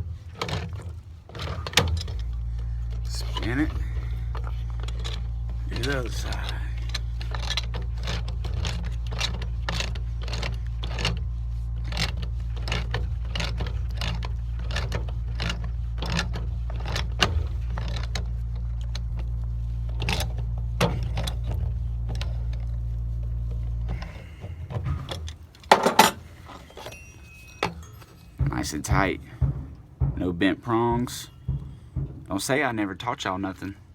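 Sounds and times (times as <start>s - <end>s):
low hum: 0.0s - 33.9s.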